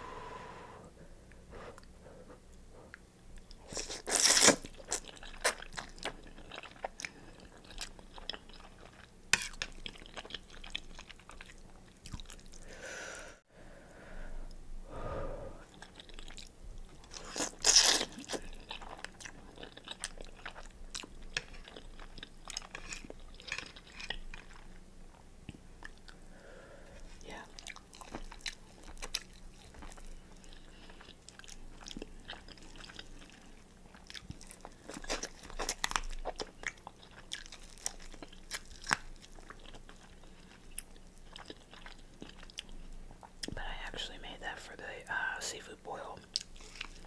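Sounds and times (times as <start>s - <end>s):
chewing and crunching: 2.5s - 12.6s, 15.7s - 26.3s, 27.0s - 44.1s, 46.2s - 47.0s.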